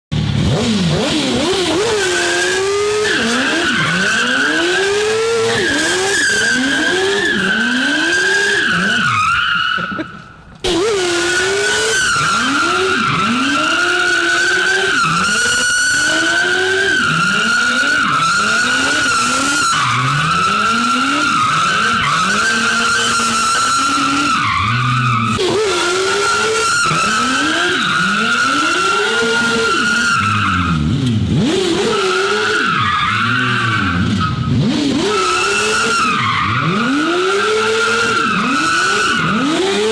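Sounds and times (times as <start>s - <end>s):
motorcycle engine revving: 0.1s - 9.1s, 10.0s - 39.9s.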